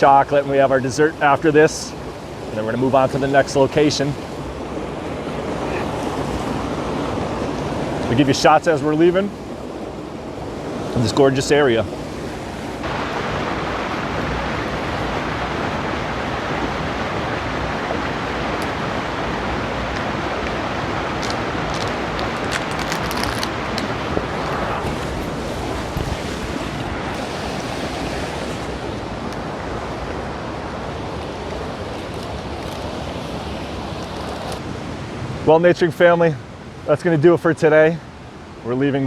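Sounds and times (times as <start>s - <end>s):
waterfall rushing: 0.1s - 35.5s.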